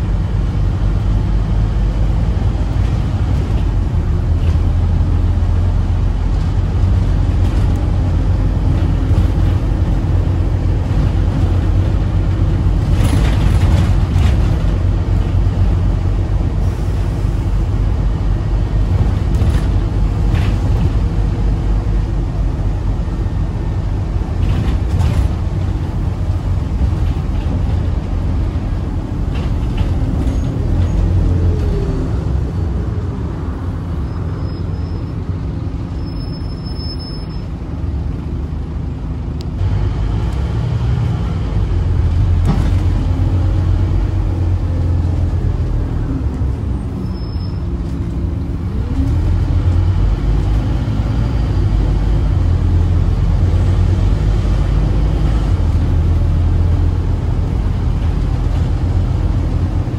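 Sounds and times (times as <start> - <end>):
bus diesel engine droning: 0.0 - 59.9
road noise: 0.0 - 59.9.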